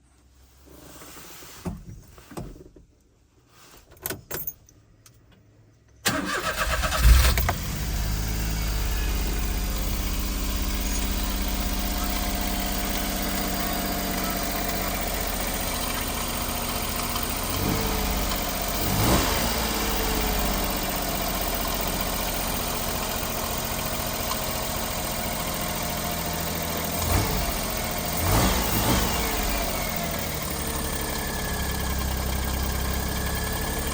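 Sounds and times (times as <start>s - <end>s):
truck engine starting and idling: 6.0s - 33.9s.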